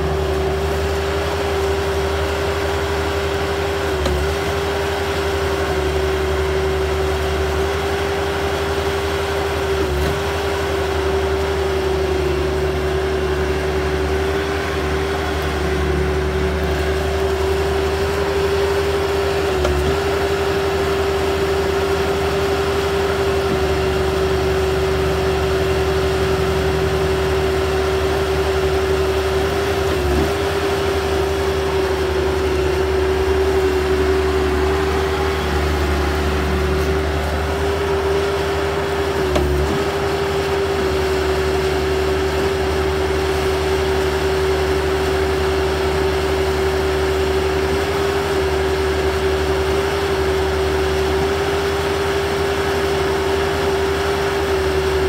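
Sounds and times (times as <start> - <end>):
diesel engine running: 0.0 - 55.0
mixer whine: 0.0 - 55.0.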